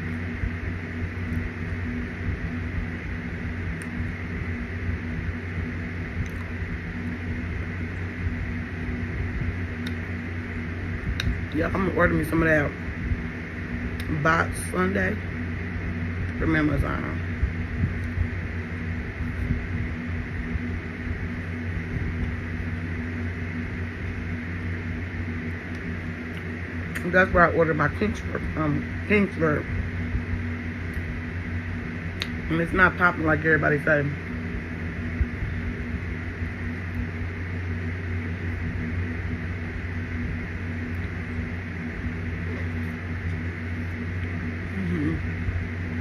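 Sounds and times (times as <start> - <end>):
motor humming and whirring: 0.0 - 46.0.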